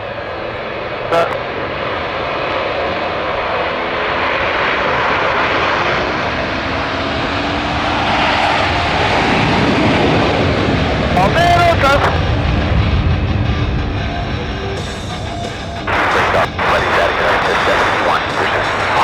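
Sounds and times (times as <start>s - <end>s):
jets taking off in afterburner: 0.0s - 19.0s.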